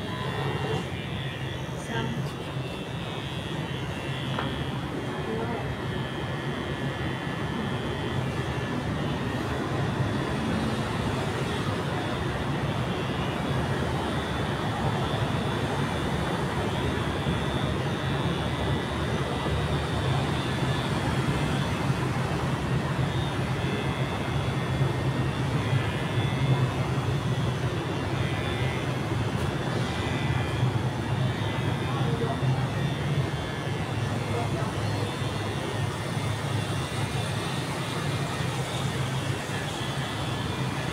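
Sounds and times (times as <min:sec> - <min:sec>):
electric hair clippers buzzing: 0:00.0 - 0:40.9.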